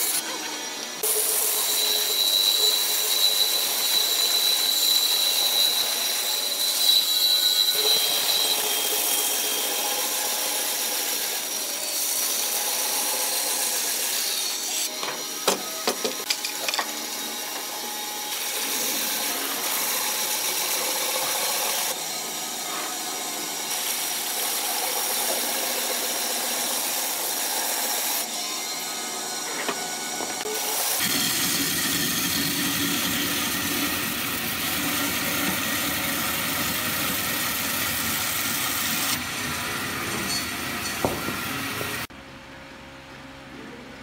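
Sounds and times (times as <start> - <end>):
bandsaw cutting wood: 0.0 - 42.1.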